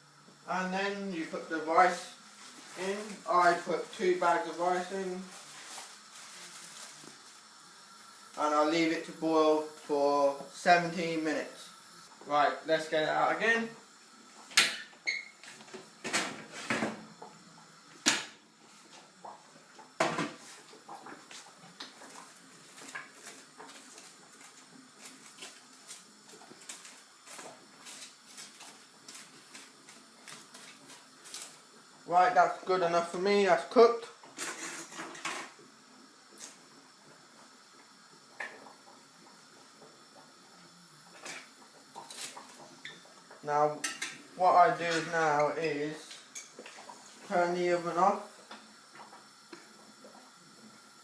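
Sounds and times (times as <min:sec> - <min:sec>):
faint steady hiss: 0:00.0 - 0:51.0.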